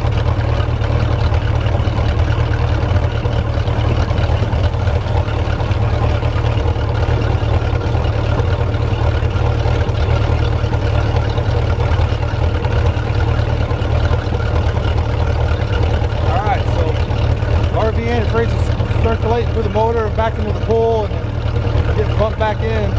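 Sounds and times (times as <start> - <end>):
boat engine idling: 0.0 - 22.9.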